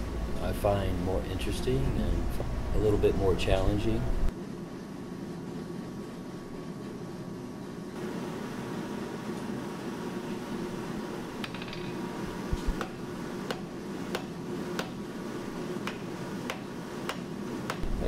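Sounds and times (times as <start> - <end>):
shop hum: 0.0 - 18.0.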